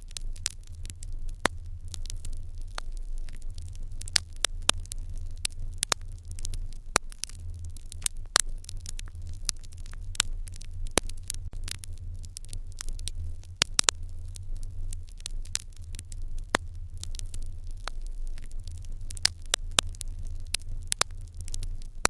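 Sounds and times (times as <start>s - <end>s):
low steady hum: 0.0s - 22.0s
wood fire crackling and popping: 0.0s - 22.0s.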